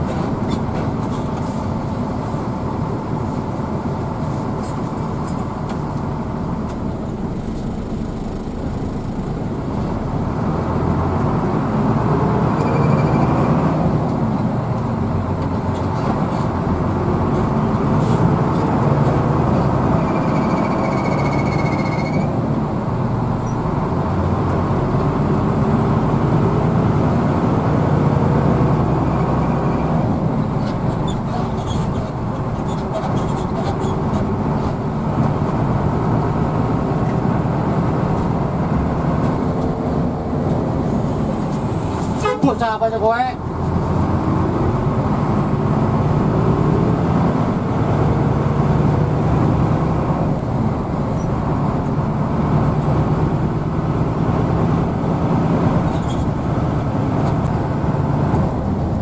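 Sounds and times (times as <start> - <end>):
bus engine accelerating: 0.0 - 59.0
road noise: 0.0 - 59.0.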